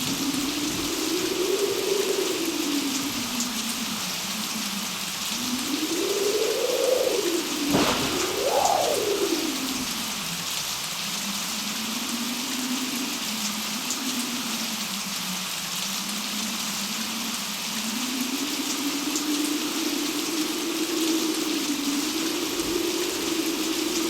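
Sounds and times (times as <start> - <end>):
heavy rain: 0.0 - 24.0
low wind howl: 0.0 - 24.0.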